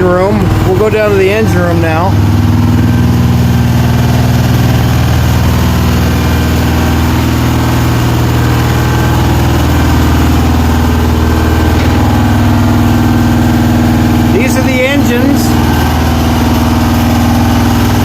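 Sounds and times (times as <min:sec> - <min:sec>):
diesel engines droning: 0:00.0 - 0:18.0.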